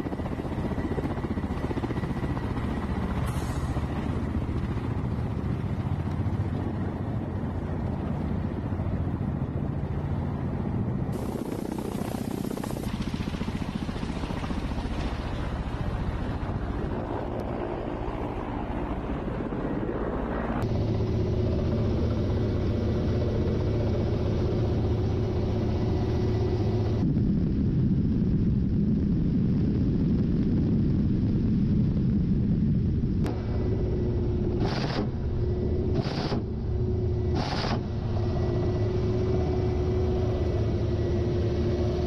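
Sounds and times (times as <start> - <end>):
helicopter rotors and engines: 0.0 - 42.0.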